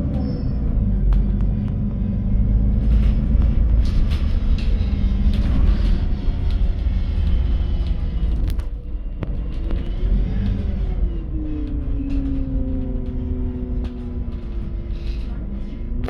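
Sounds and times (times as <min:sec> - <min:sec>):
bus engine and road rumble: 0:00.0 - 0:16.0
clicks and rattles in cabin: 0:00.0 - 0:16.0.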